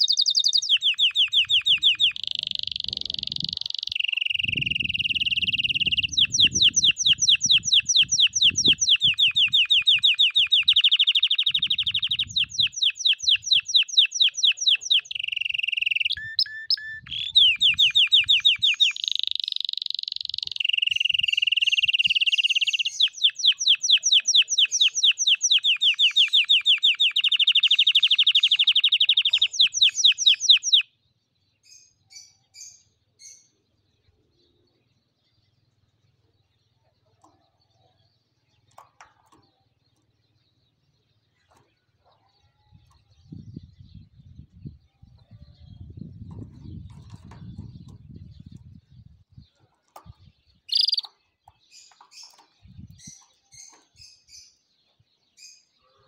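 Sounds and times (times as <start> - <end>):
canary singing trills: 0.0 - 30.9, 31.6 - 56.0
faint bird chirps: 0.0 - 30.9, 31.6 - 56.0.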